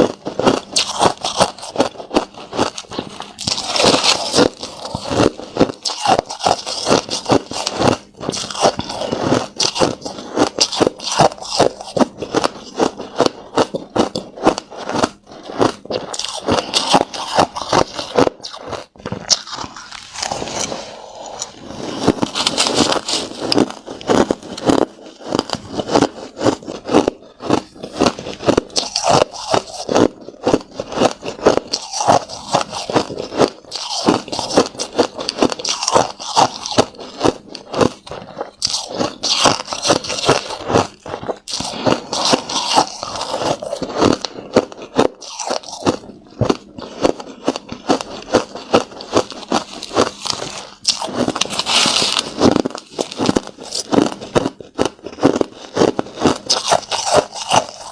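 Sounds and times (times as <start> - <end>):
crushed ice being chewed: 0.0 - 57.9.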